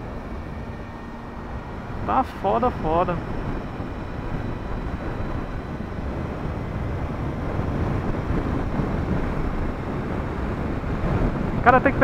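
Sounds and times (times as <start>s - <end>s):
motorcycle engine and road noise: 0.0s - 12.0s
wind rushing over microphone: 0.0s - 12.0s.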